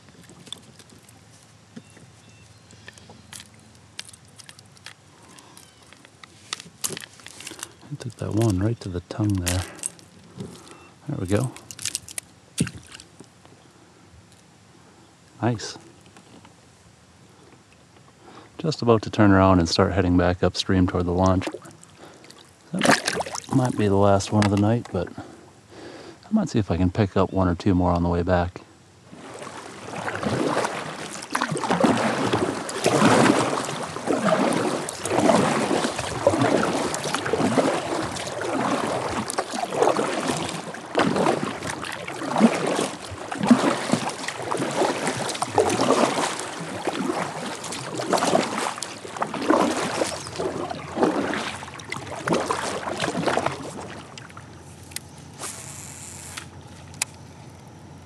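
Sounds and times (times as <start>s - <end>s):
paddle strokes splashing water: 0.0s - 13.4s, 19.2s - 26.2s, 29.0s - 57.0s.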